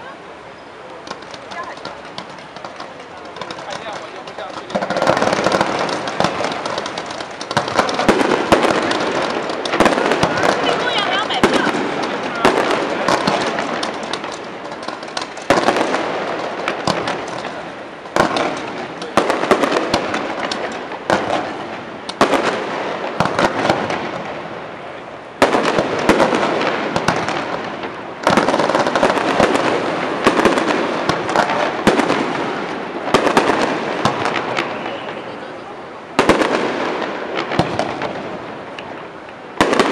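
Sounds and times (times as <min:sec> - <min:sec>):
fireworks bursting with bangs: 0:00.0 - 0:39.9
fireworks crackling: 0:00.0 - 0:39.9.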